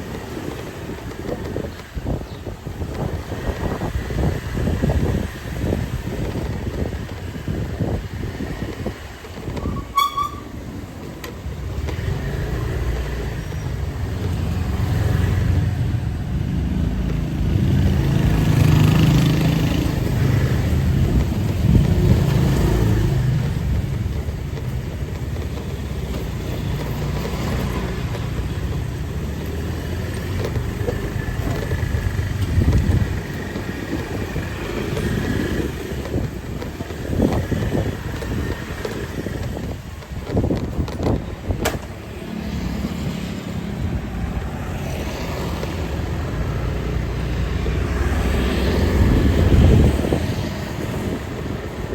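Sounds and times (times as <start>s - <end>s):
street background noise: 0.0s - 51.9s
vehicle engines passing: 0.0s - 51.9s.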